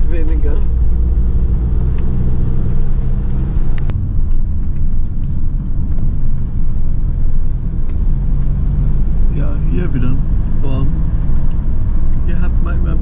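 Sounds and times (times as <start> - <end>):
engine running inside cab: 0.0 - 13.0
road rumble: 0.0 - 13.0.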